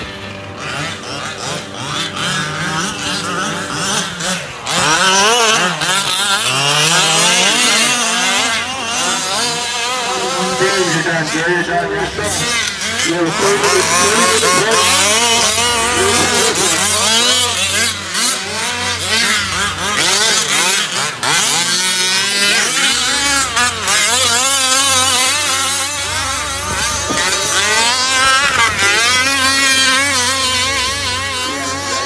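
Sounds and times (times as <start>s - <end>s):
rc truck engines revving: 0.0s - 32.0s.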